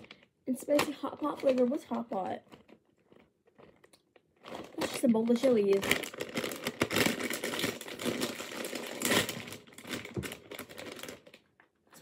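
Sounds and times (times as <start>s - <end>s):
crisp bag crinkling: 0.0s - 11.7s.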